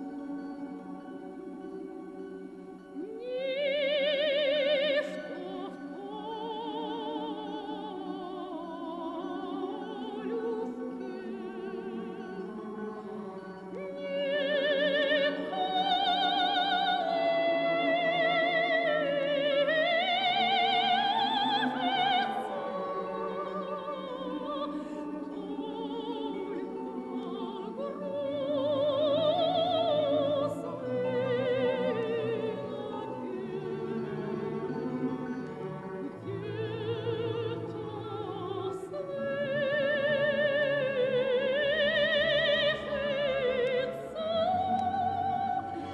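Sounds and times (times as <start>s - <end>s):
operatic singing with vibrato: 0.0s - 45.9s
orchestral accompaniment: 0.0s - 45.9s.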